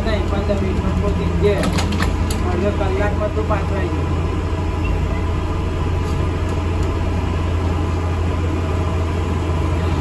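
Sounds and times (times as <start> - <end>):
bus engine drone: 0.0 - 10.0.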